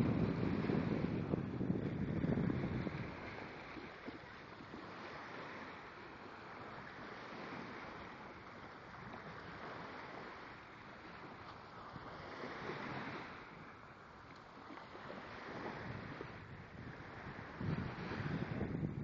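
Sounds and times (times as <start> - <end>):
small waves washing onto beach: 0.0 - 19.0.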